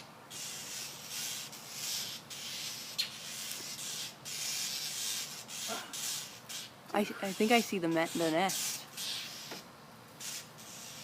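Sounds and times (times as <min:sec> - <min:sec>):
rustling hiss: 0:00.0 - 0:11.0.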